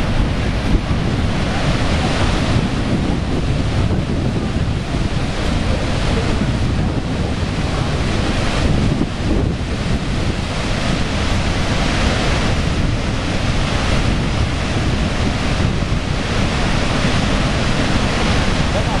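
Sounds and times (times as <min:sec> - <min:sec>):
waterfall roaring: 0:00.0 - 0:19.0
wind noise on microphone: 0:00.0 - 0:19.0.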